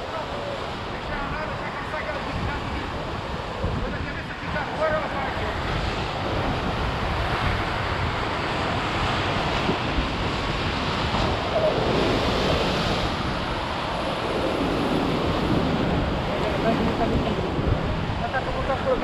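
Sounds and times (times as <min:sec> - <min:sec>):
waves breaking over rocks: 0:00.0 - 0:19.0
wind buffeting microphone: 0:00.0 - 0:19.0.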